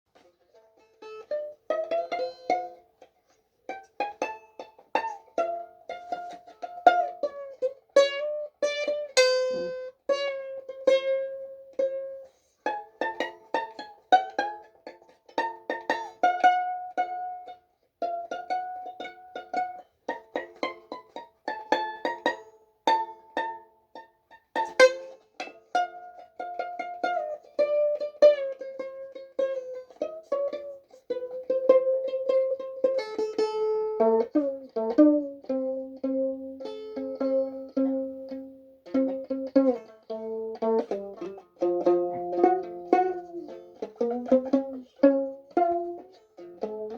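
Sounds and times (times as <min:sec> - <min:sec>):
plucked string instrument melody: 0:00.1 - 0:46.9.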